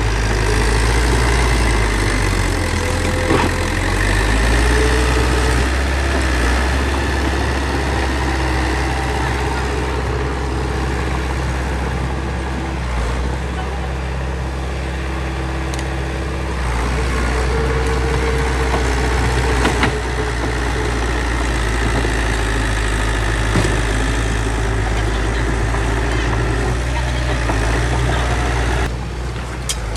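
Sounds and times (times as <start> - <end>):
bulldozer diesel engine running: 0.0 - 29.9.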